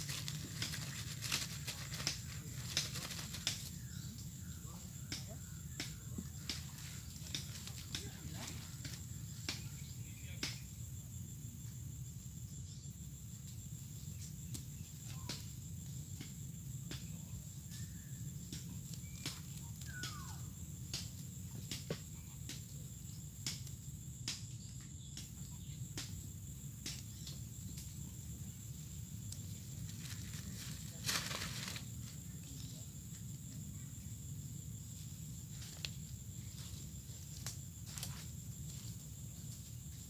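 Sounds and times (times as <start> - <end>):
dry leaves and twigs crackling: 0.0 - 11.2, 12.9 - 40.0
crickets chirring: 0.0 - 40.0.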